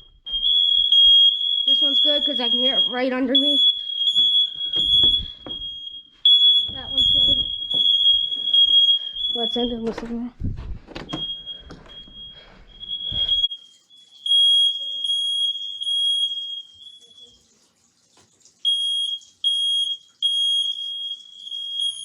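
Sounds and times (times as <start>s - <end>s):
smoke alarms beeping: 0.0s - 17.5s, 18.6s - 22.0s.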